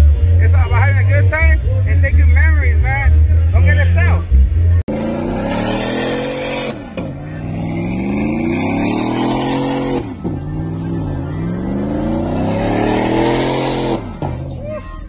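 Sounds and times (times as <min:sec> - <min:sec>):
truck engine revving: 0:00.0 - 0:14.7.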